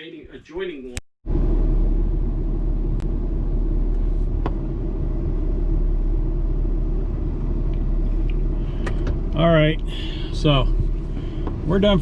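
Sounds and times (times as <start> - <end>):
road and engine rumble: 0.1 - 12.0.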